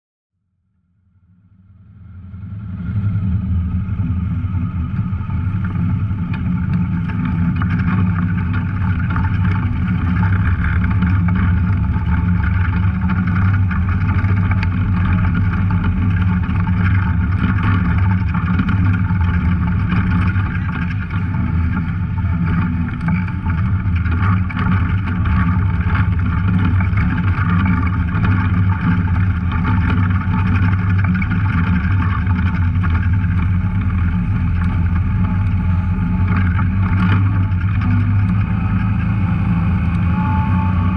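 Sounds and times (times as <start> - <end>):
off-road vehicle engine running: 1.6 - 40.9.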